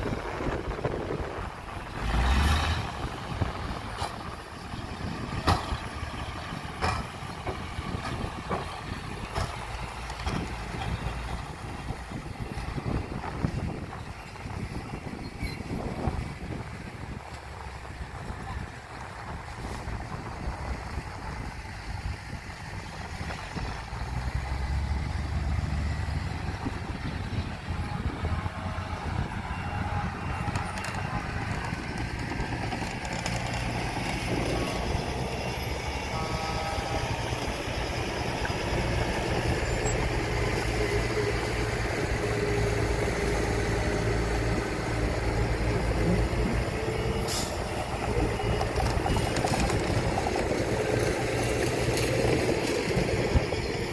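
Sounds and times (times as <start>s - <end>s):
diesel machinery running: 0.0s - 53.9s.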